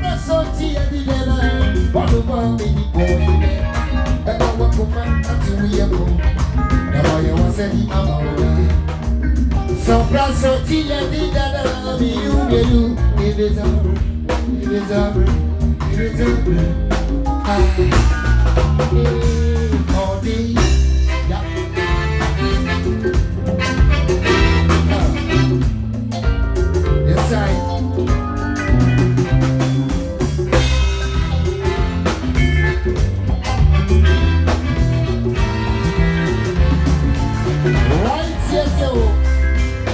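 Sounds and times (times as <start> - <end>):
live band with singing: 0.0 - 39.9.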